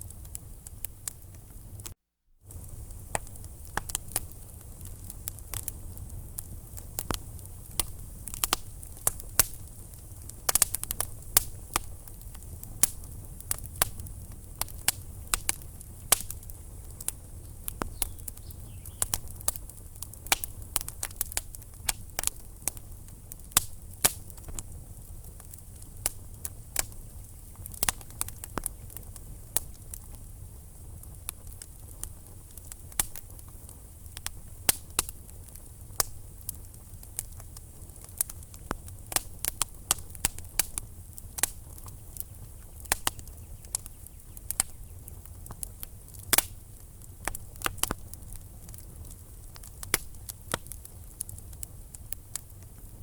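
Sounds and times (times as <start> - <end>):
logs crackling and popping: 0.0 - 53.0
low rumble of flames: 0.0 - 53.0.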